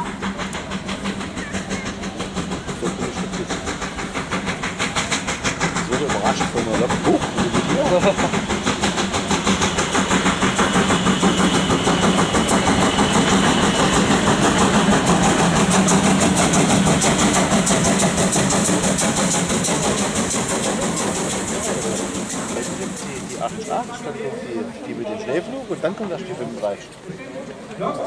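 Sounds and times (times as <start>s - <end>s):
steam hissing: 0.0s - 27.6s
steam locomotive exhaust chuffs: 0.0s - 28.0s.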